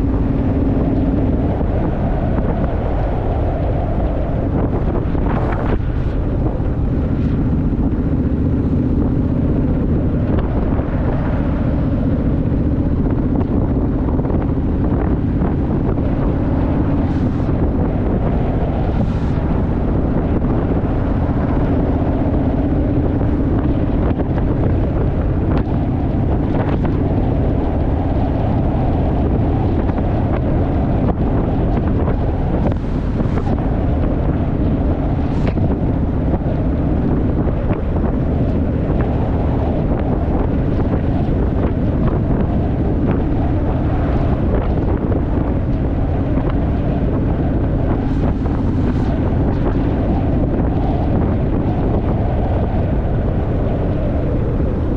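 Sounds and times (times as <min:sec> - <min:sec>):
wind buffeting microphone: 0:00.0 - 0:54.9
motorcycle engine running: 0:04.5 - 0:52.2.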